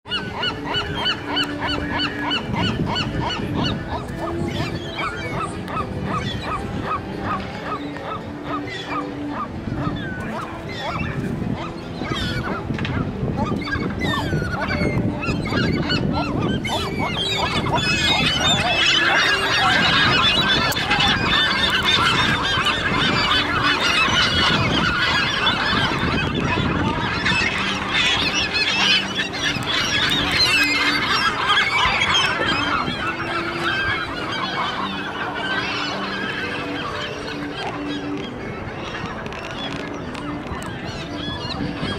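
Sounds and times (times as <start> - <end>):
gulls calling and squawking: 0.1 - 41.9.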